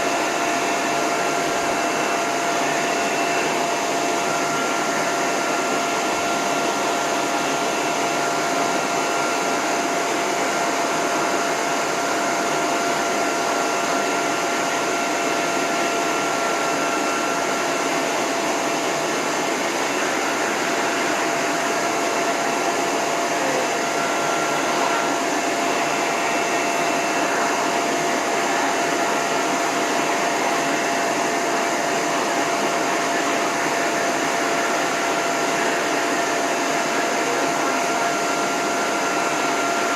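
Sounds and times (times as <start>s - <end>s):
hose dryer blowing air: 0.0s - 39.9s.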